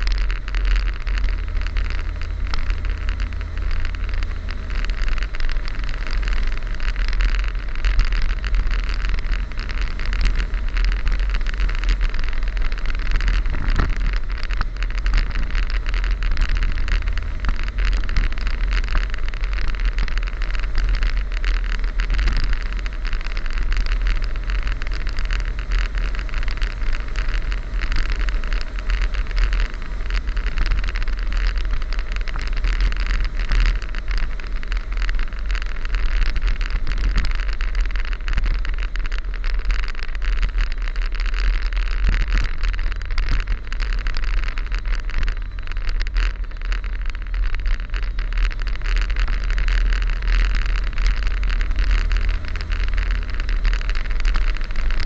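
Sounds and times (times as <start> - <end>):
car engine hum: 0.0 - 55.0
tyre noise on road: 0.0 - 55.0.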